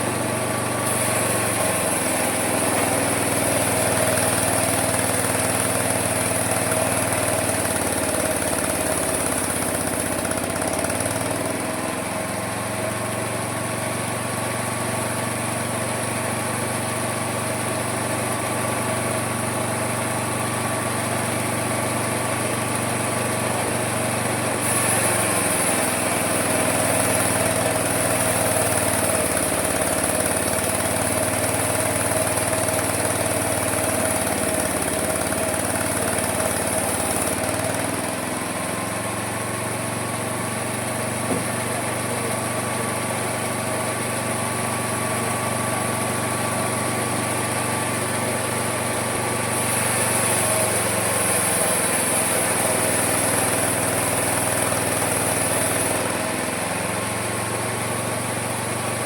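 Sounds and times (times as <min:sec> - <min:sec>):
sawmill cutting wood: 0:00.0 - 0:59.0.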